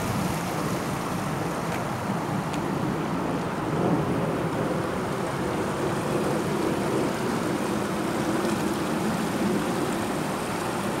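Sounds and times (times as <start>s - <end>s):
stream water rushing over rocks: 0.0s - 11.0s.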